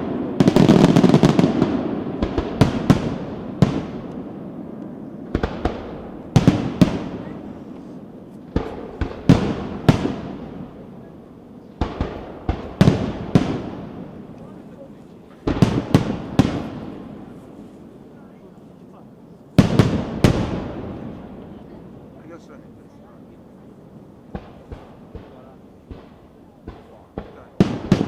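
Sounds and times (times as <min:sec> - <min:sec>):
fireworks bursting: 0:00.0 - 0:28.0.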